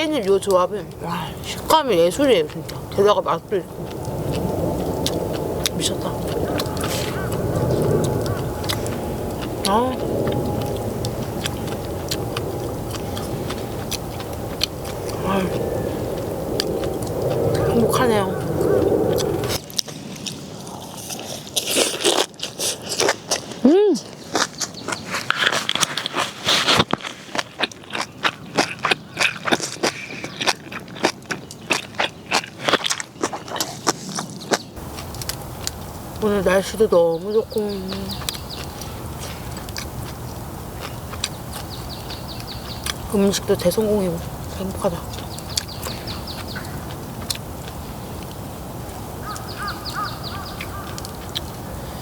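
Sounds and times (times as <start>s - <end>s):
steady background hiss: 0.0s - 24.3s, 34.0s - 52.0s
crunchy chewing: 0.0s - 52.0s.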